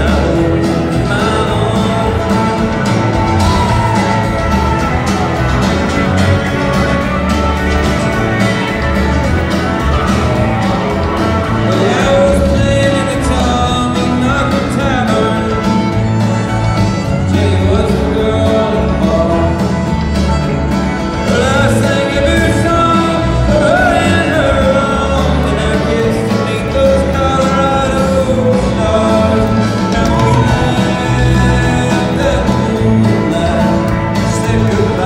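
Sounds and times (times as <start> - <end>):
fiddle: 0.0 - 35.0
live country band: 0.0 - 35.0.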